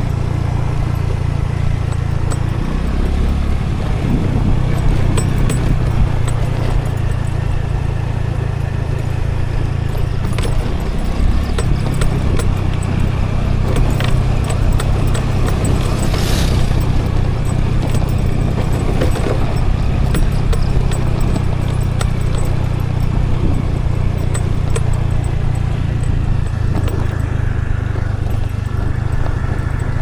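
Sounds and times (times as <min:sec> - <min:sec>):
road and wind noise: 0:00.0 - 0:30.0
scooter engine running: 0:00.0 - 0:30.0
small clicks and rattles: 0:00.0 - 0:30.0.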